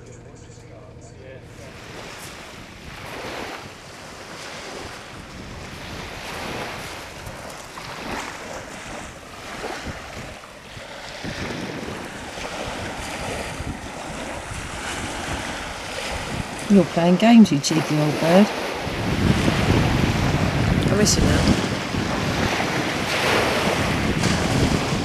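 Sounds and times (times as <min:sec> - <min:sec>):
wind buffeting microphone: 0:01.4 - 0:25.0
sea waves washing on shore: 0:01.5 - 0:25.0.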